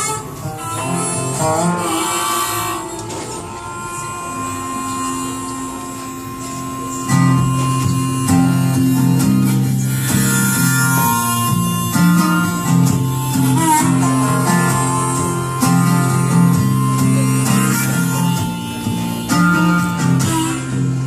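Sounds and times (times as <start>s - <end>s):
picked electric guitar: 0.0s - 21.0s
strummed acoustic guitar: 0.0s - 21.0s.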